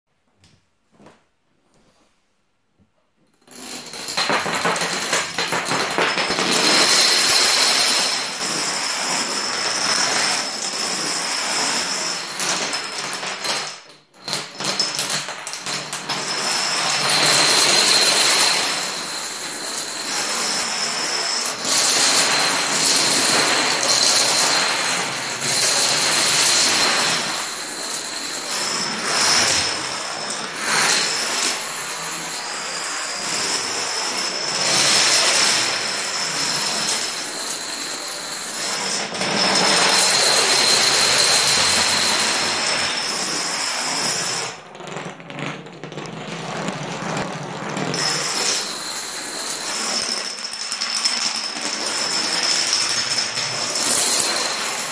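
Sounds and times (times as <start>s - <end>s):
plastic dominoes clattering: 3.4s - 54.9s.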